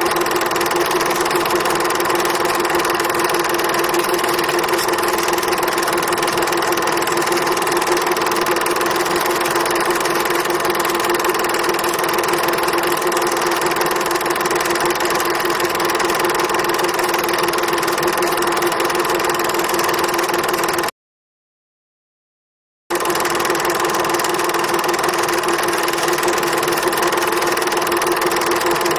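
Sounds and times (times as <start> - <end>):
motor running steadily: 0.0 - 20.8, 23.0 - 28.9.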